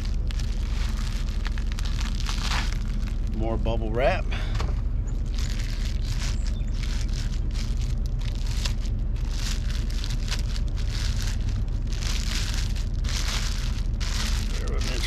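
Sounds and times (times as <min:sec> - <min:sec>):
plastic wrap crinkling: 0:00.0 - 0:03.8, 0:05.1 - 0:15.0
steady low hum: 0:00.0 - 0:15.0.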